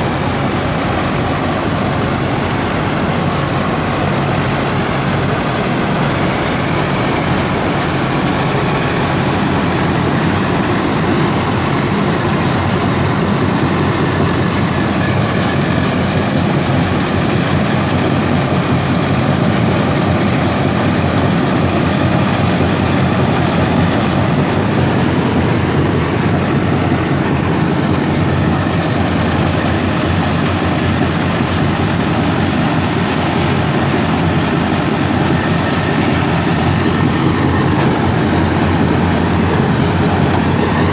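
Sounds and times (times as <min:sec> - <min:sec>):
combine harvester machinery: 0:00.0 - 0:40.9
diesel tractor engine: 0:00.0 - 0:40.9.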